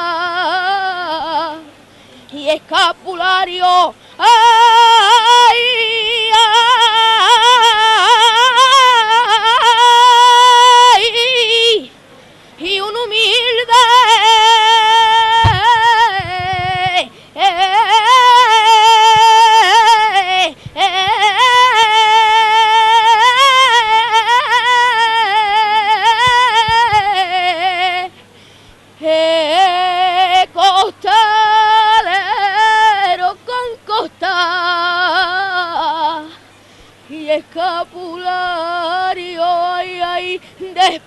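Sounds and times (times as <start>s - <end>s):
boy singing unaccompanied: 0.0s - 12.0s, 12.6s - 28.2s, 29.0s - 36.4s, 37.1s - 41.0s.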